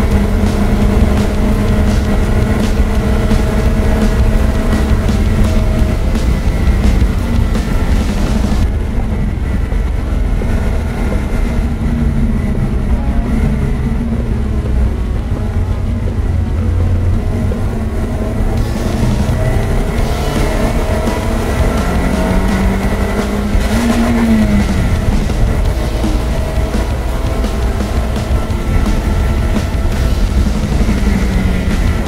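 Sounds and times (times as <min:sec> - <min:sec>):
car engine revving: 0:00.0 - 0:32.0
road and tyre noise: 0:00.0 - 0:32.0.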